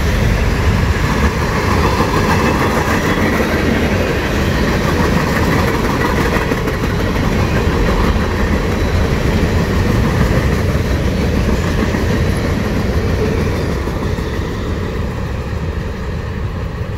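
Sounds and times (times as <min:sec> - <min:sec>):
freight train rumbling on rails: 0:00.0 - 0:16.9.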